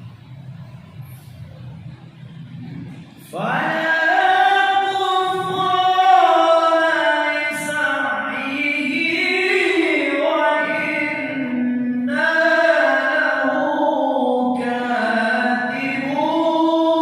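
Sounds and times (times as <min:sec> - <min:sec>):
man reciting melodically: 0:03.0 - 0:17.0.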